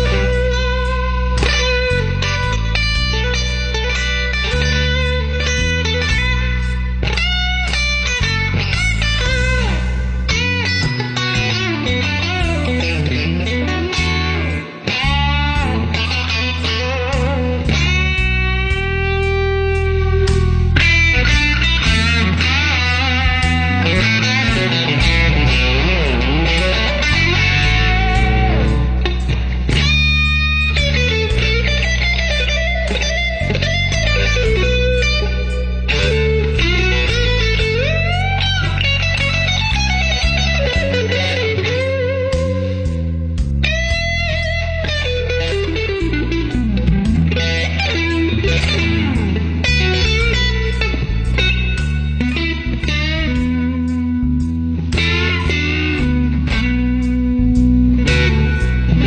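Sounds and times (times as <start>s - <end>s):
bass line: 0.0s - 59.0s
electric guitar lead: 0.0s - 59.0s.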